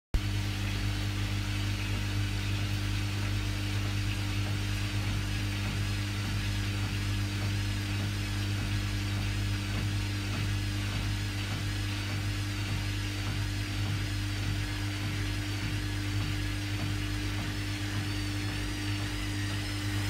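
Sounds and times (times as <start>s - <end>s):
washing machine motor hum: 0.2s - 20.0s.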